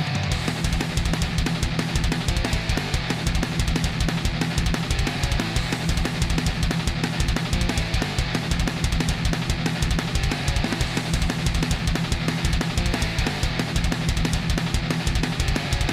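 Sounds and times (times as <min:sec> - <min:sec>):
fast rock music: 0:00.0 - 0:15.9.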